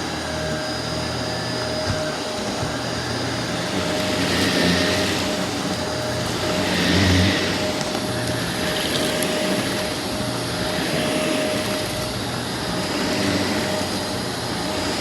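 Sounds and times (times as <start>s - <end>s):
vacuum cleaners running: 0.0s - 15.0s.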